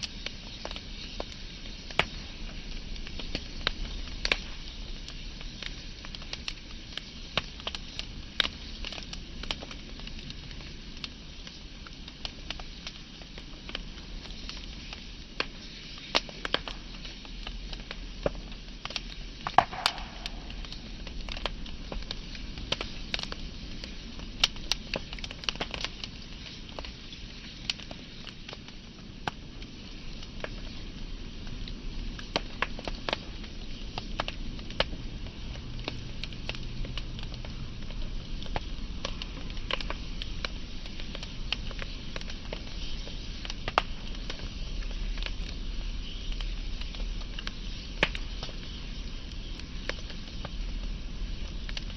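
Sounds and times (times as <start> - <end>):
burning logs crackling and popping: 0.0 - 51.9
wood fire hissing: 0.0 - 51.9.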